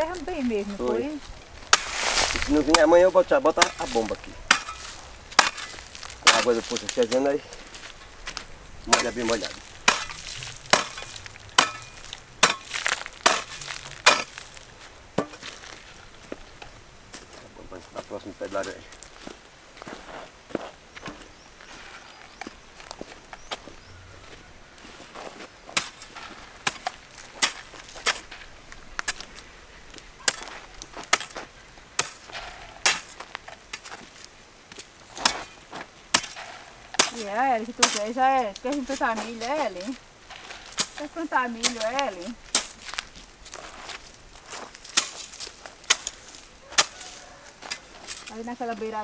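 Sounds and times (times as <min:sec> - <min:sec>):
hoe blade striking dry soil: 0:00.0 - 0:17.3, 0:25.2 - 0:29.5, 0:30.2 - 0:49.0.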